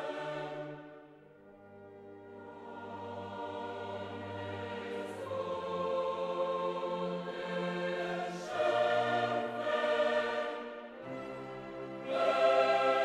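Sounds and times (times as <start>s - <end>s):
slow choir-like chords: 0.0s - 13.0s.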